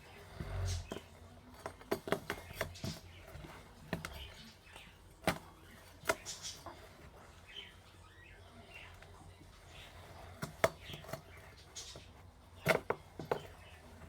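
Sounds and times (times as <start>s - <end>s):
faint scraping and rubbing: 0.0s - 14.0s.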